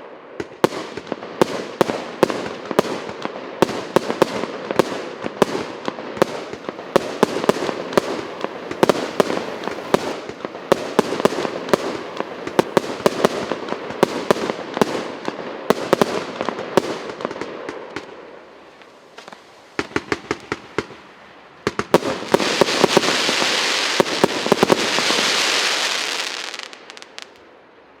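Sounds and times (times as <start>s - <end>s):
firework hissing crackle and pops: 0.3s - 27.7s
firework bangs: 0.4s - 27.5s.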